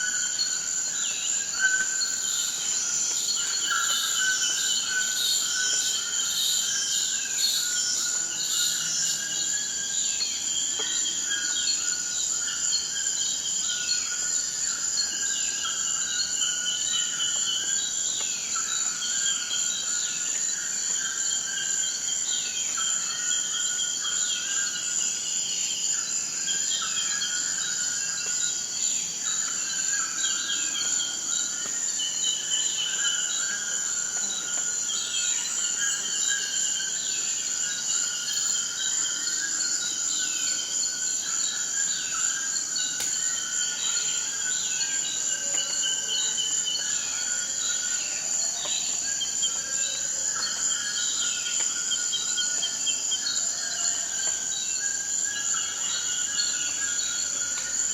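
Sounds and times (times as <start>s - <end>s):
insect drone: 0.0s - 57.9s.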